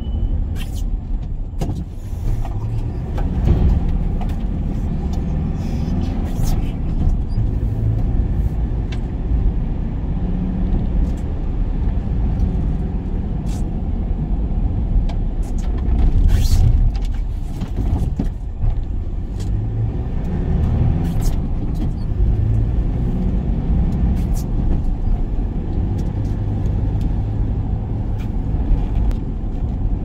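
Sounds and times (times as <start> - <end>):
van engine and road rumble: 0.0 - 30.0.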